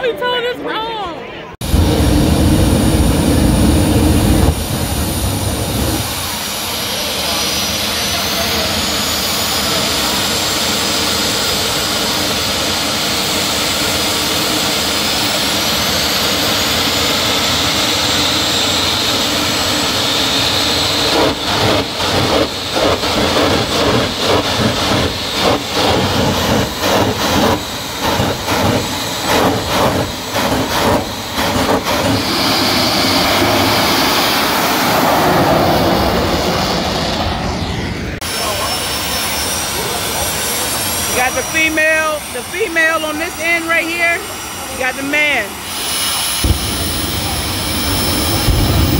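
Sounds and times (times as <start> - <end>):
afterburner surges: 1.6 - 48.9
high turbine whine: 1.6 - 48.9
jet turbine engines roaring: 1.6 - 48.9.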